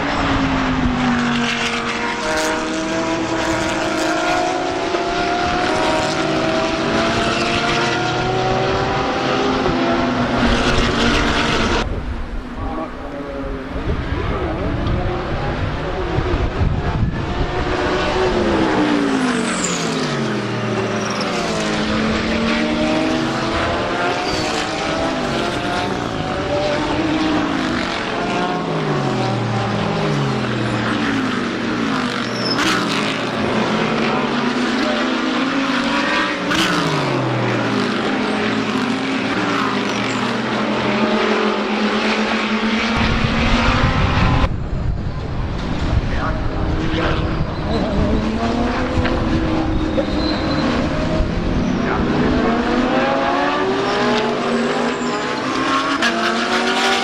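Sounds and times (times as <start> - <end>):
race cars passing at speed: 0.0 - 57.0.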